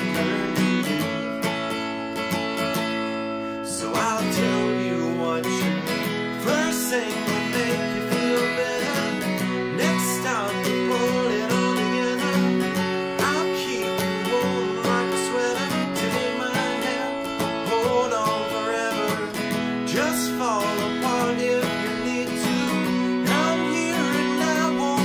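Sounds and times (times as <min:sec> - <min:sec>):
man singing: 0:00.0 - 0:01.4, 0:03.5 - 0:25.0
acoustic guitar strumming: 0:00.0 - 0:25.0.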